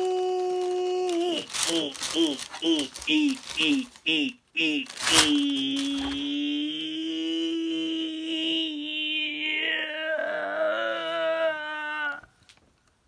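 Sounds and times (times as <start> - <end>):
person holding a sung note: 0.0 - 12.5.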